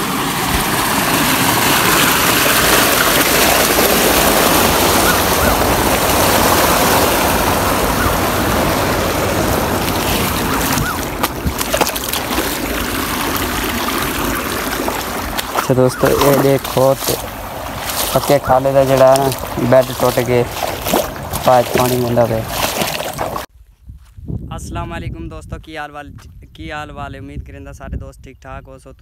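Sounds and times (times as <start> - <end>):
water rushing: 0.0 - 23.5.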